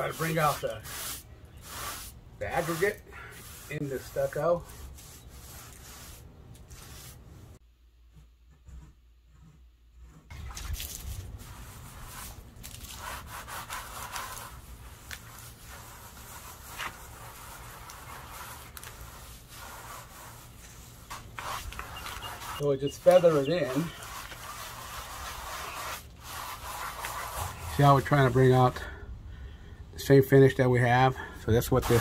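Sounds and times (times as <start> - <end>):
sponge float scrubbing stucco: 0.0 - 7.6, 8.6 - 29.0, 31.5 - 32.0.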